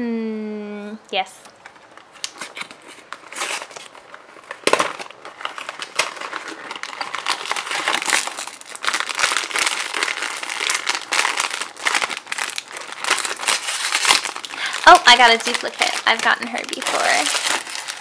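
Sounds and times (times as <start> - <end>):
foil bag crinkling: 1.6 - 18.0.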